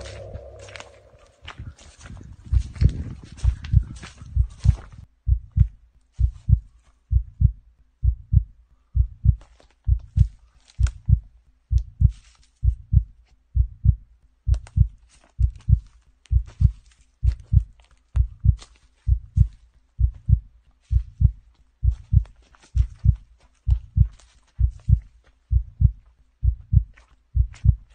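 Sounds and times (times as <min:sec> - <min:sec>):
heartbeat lub-dub thump: 0:00.0 - 0:01.6, 0:02.5 - 0:27.9.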